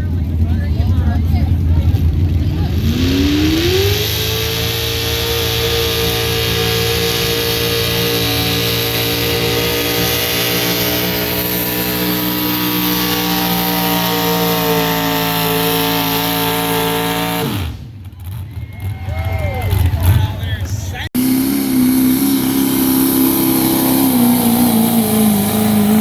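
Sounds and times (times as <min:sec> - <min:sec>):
truck engine at high revs: 0:00.0 - 0:26.0.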